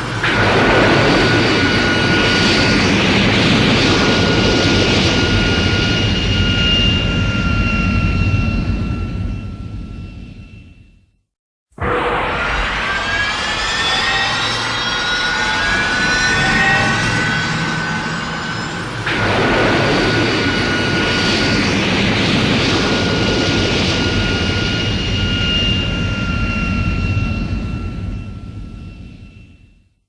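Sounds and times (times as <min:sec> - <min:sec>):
mechanical roar with whines: 0:00.0 - 0:10.8, 0:11.8 - 0:29.5.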